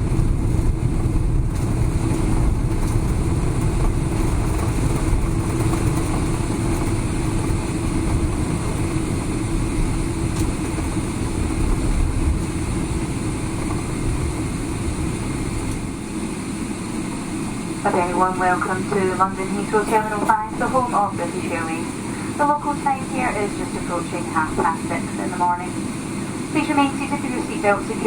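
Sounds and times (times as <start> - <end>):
aircraft cabin rumble and hum: 0.0 - 28.0.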